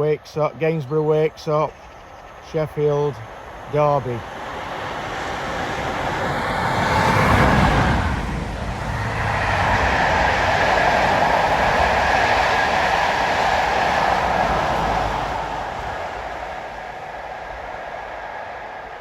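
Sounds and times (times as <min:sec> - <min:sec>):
train passing at speed: 0:01.5 - 0:19.0
wheels rushing on rail: 0:03.1 - 0:19.0.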